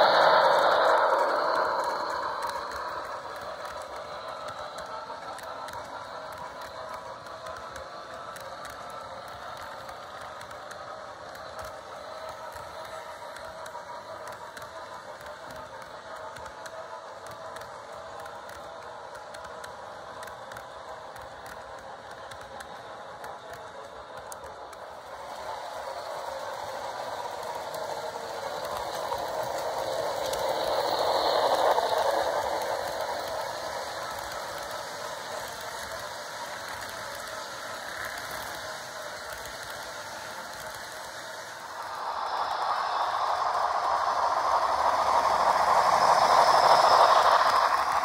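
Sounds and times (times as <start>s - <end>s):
model train rattling on track: 0.0s - 48.0s.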